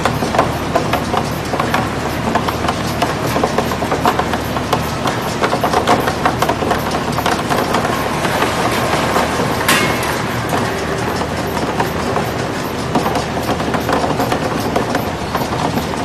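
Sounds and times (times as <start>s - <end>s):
dates clattering on steel rollers: 0.0s - 16.0s
steady motor hum: 0.0s - 16.0s.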